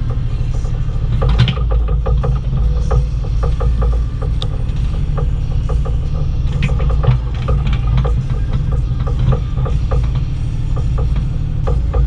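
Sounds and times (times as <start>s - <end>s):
diesel engine running: 0.0s - 12.0s
excavator bucket clanking: 0.0s - 12.0s.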